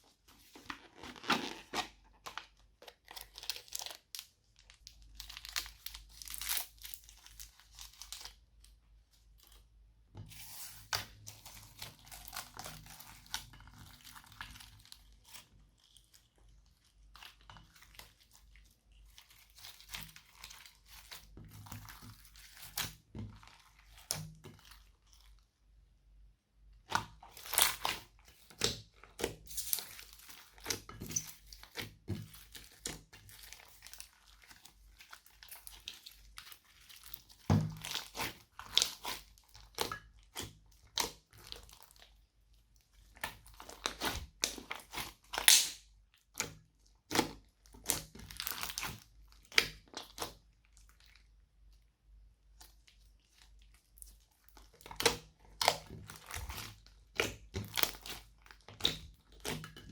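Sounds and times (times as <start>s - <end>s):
slime squishing by hand: 0.0s - 59.9s.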